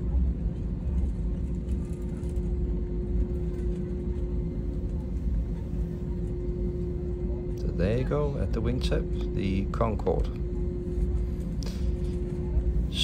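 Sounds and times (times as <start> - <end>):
constant hum: 0.0 - 13.0
jet engines rumbling at idle: 0.0 - 13.0.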